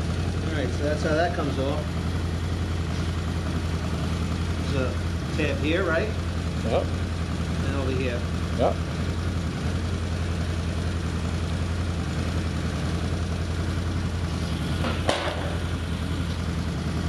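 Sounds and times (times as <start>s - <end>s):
atv engine idling: 0.0s - 17.0s.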